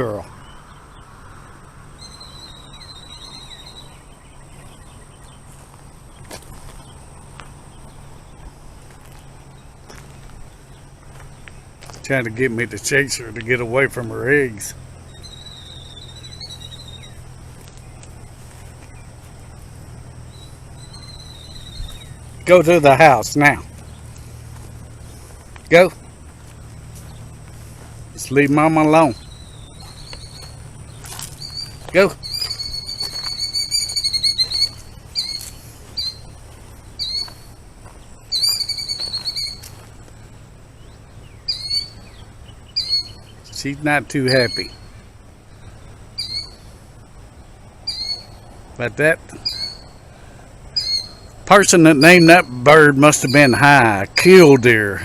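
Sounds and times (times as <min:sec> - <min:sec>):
killdeer calling: 0:00.0 - 0:55.0
steady low hum: 0:00.0 - 0:55.0.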